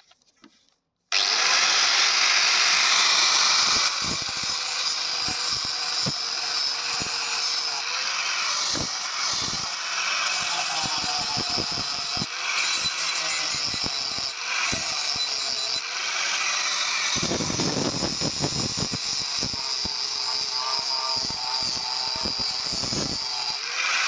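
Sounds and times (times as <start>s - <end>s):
angle grinder grinding steel: 1.1s - 24.0s.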